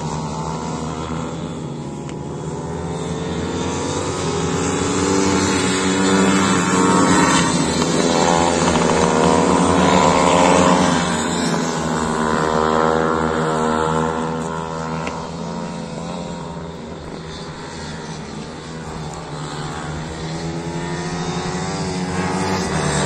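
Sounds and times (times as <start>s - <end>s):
motorbike engine revving: 0.0s - 23.0s.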